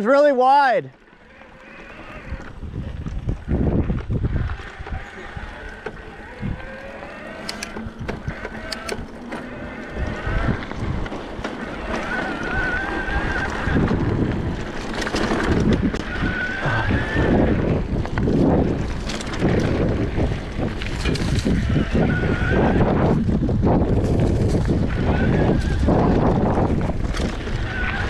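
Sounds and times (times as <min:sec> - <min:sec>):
bike tyres rumbling on dirt: 0:00.0 - 0:28.0
wind buffeting microphone: 0:01.8 - 0:28.0.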